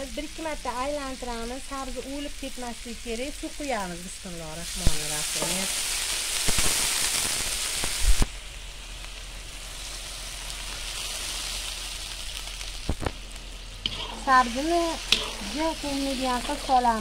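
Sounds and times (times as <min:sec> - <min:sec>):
water hissing into hot oil: 0:00.0 - 0:17.0.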